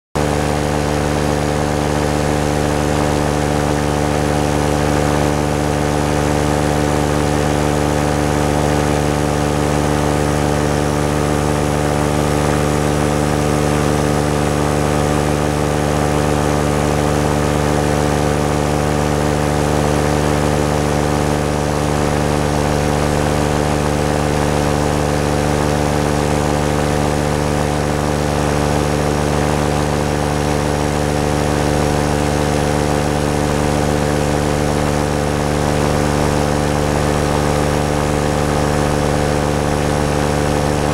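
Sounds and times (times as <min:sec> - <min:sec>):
paramotor engine drone: 0:00.2 - 0:40.9.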